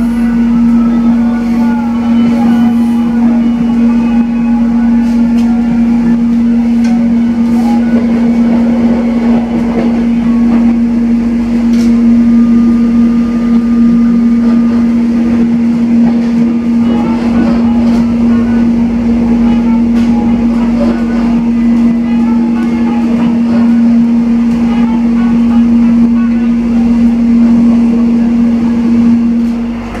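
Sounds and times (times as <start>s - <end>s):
rumble of moving train: 0.0s - 30.0s
train cabin hum: 0.0s - 30.0s.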